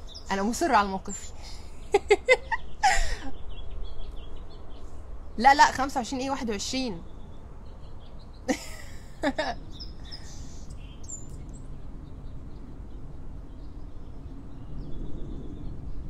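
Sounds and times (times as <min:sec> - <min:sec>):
outdoor background noise: 0:00.0 - 0:16.0
songbirds chirping: 0:00.0 - 0:16.0.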